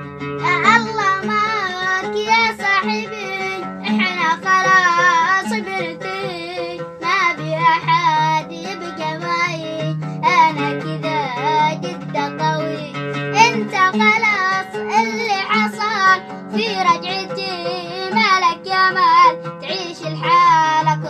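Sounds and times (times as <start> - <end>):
plucked string accompaniment: 0.0 - 21.0
child singing with vibrato: 0.4 - 21.0.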